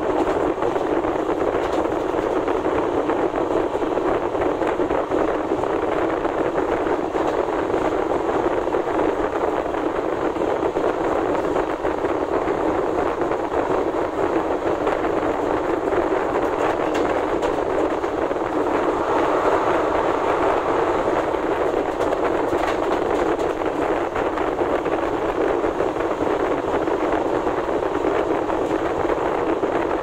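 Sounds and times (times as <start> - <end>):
train wheels on rails rushing: 0.0 - 30.0.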